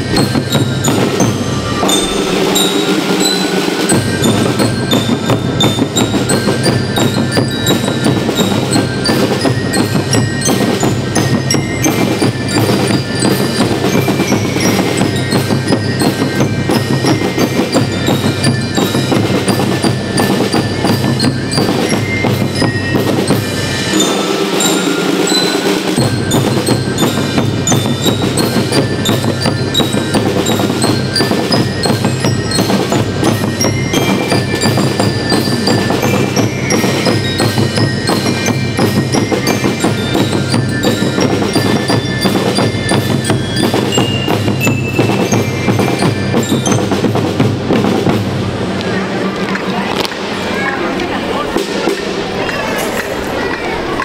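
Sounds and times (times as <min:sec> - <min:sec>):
bell-lyre melody: 0:00.0 - 0:48.4
snare and bass drum beat: 0:00.0 - 0:48.4.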